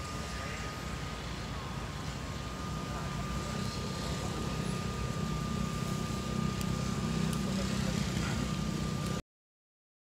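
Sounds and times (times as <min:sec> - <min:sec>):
small electric propeller buzzing: 0:00.0 - 0:09.2.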